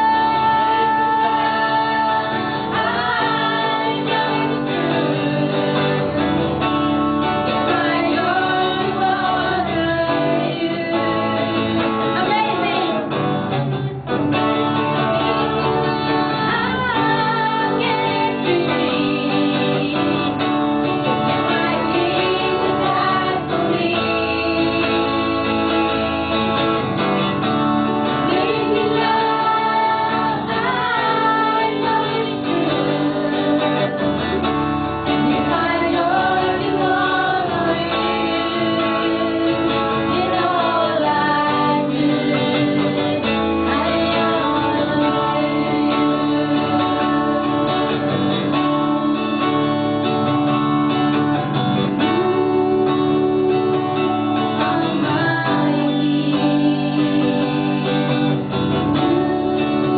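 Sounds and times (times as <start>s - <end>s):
woman singing into microphone: 0.0s - 6.0s, 7.4s - 13.2s, 15.0s - 26.6s, 28.0s - 34.3s, 35.1s - 49.5s, 51.8s - 59.9s.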